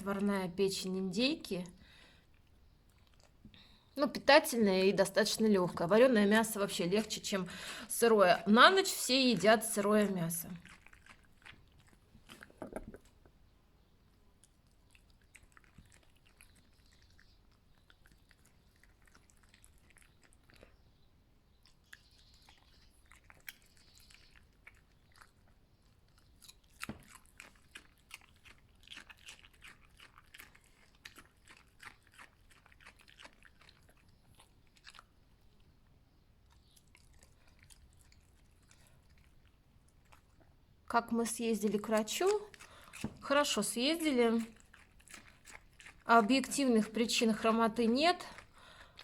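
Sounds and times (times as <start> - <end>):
fox chewing food: 0.0 - 49.0.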